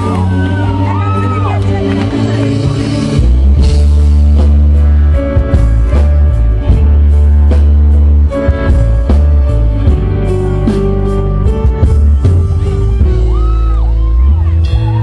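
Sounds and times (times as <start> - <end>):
electric guitar: 0.0 - 15.0
heavy booming bass: 0.0 - 15.0
keyboard: 0.0 - 15.0
steady drum beat: 1.6 - 15.0.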